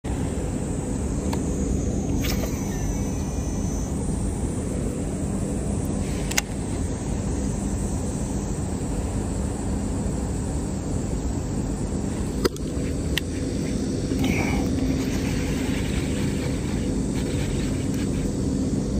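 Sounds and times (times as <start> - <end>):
low outdoor rumble: 0.0 - 18.9.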